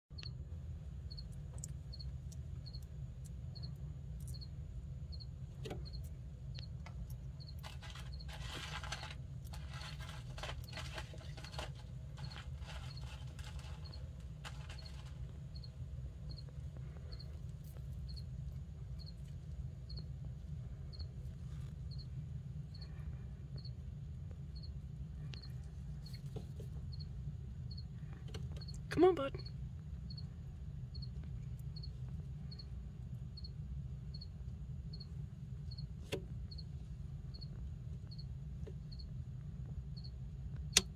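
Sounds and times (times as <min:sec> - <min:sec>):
low steady hum: 0:00.1 - 0:40.9
cricket chirping: 0:00.2 - 0:40.9.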